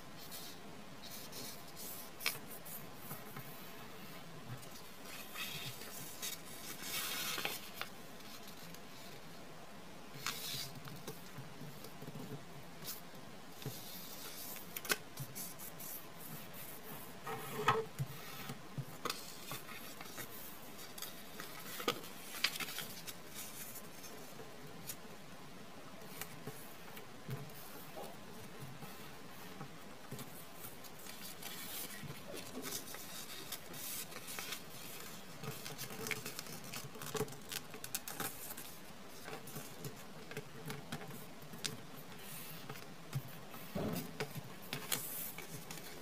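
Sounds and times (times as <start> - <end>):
paper rustling and scraping: 0.2 - 9.3, 13.6 - 25.0, 26.0 - 46.0.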